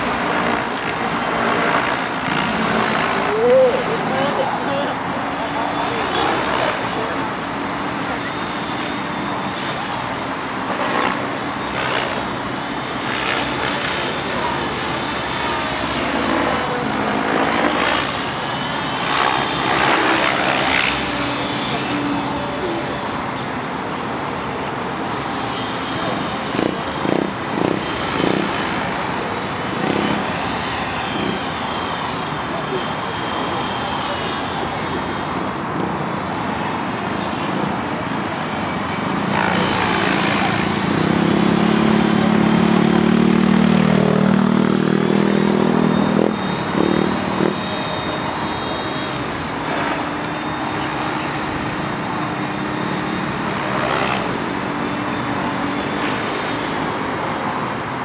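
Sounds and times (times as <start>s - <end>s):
electric motor and gear whine: 0.0s - 58.0s
helicopter rotor rush: 0.0s - 58.0s.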